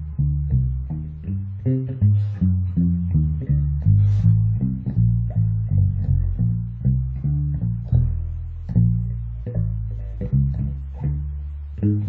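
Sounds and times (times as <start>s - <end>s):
electric bass plucked notes: 0.0s - 12.0s.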